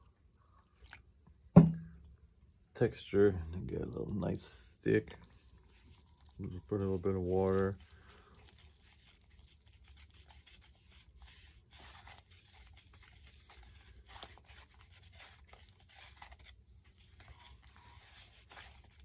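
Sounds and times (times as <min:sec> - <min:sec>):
stick stirring wet mix: 0:03.6 - 0:19.0.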